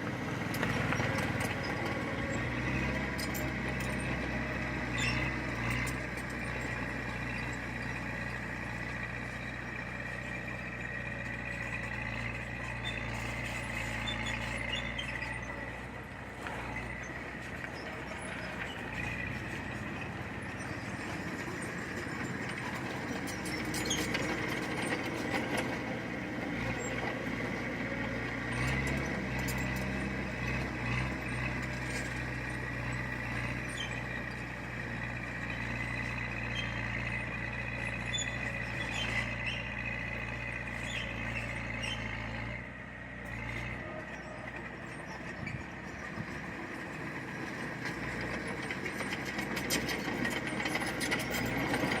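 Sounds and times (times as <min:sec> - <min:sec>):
diesel machine engine running: 0:00.0 - 0:52.0.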